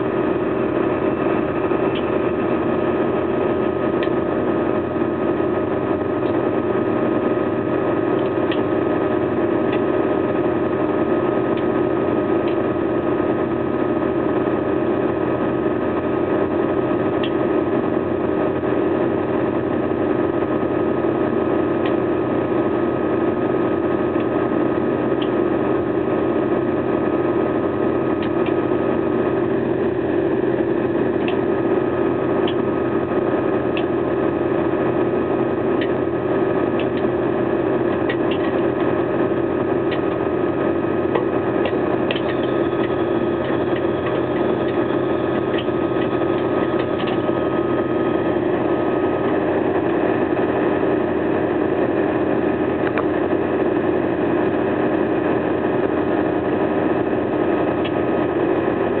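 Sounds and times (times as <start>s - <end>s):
harvester engine and machinery drone: 0.0s - 59.0s
thin whine: 0.0s - 59.0s.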